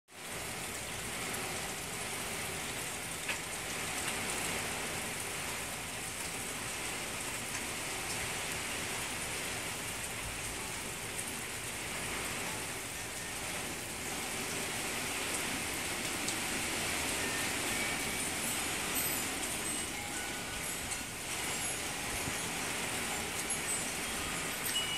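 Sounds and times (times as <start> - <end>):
steady rain falling: 0.1 - 24.9.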